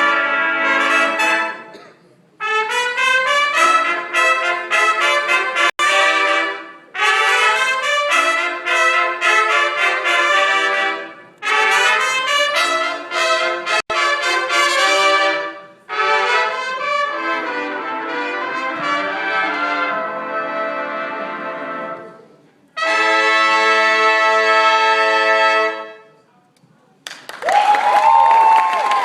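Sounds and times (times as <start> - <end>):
brass marching band playing: 0.0 - 1.8, 2.4 - 26.1.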